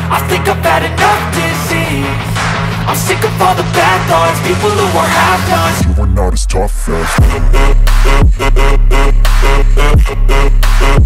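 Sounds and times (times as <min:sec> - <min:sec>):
rap-rock music with bass line: 0:00.0 - 0:11.0.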